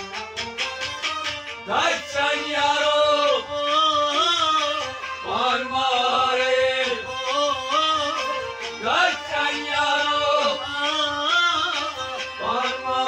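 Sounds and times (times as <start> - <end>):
harmonium chords: 0.0 - 13.0
man singing: 1.6 - 13.0.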